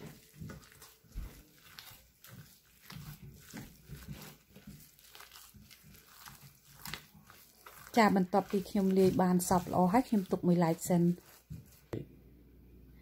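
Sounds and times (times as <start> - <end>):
squelching of sticky filling: 0.0 - 12.0.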